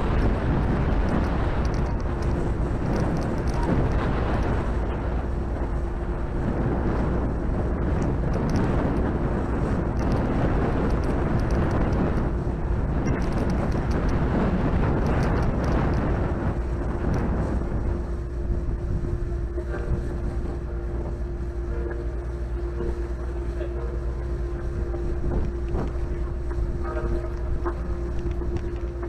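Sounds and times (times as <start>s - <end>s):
faint steady hum: 0.0s - 29.0s
wind buffeting microphone: 0.0s - 29.0s.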